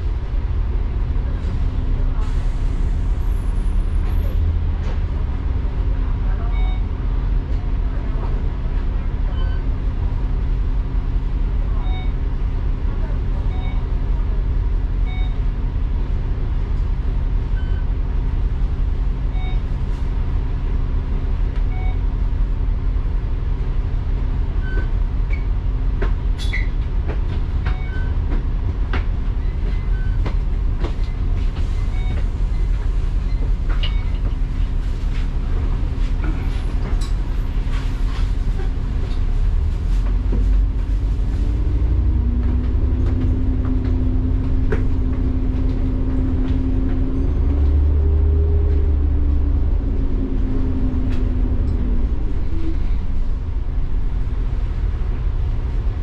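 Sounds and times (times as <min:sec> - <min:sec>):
bus body rattling: 0:00.0 - 0:56.0
bus engine rumble: 0:00.0 - 0:56.0.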